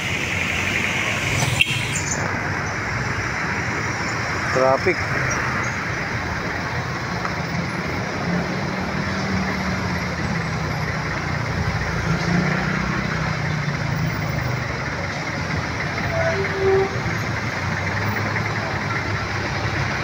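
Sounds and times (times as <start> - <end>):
low engine drone: 0.0 - 20.0
road traffic noise: 0.0 - 20.0.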